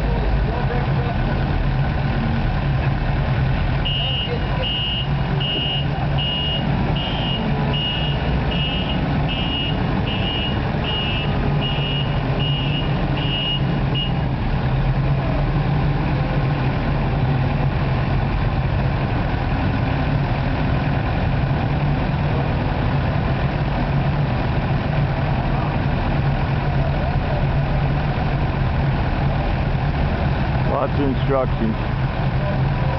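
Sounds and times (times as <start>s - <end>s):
loader engine running: 0.0s - 32.9s.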